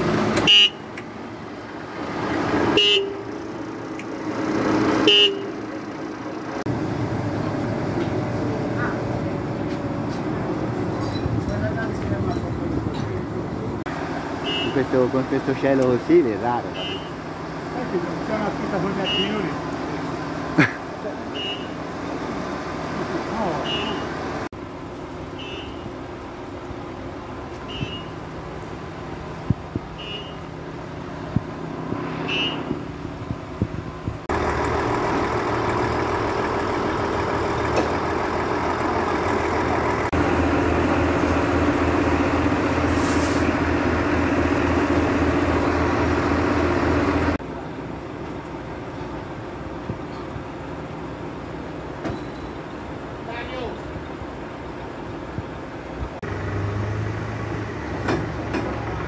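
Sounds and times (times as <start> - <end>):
truck diesel engine: 0.0 - 59.0.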